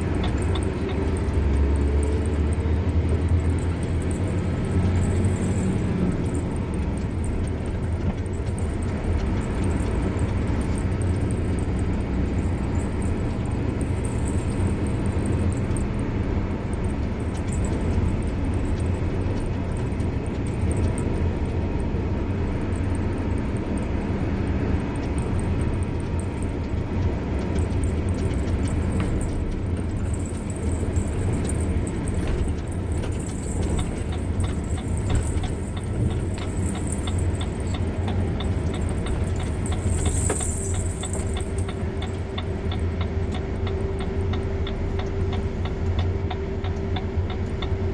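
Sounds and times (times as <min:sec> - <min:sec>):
car engine: 0:00.0 - 0:47.9.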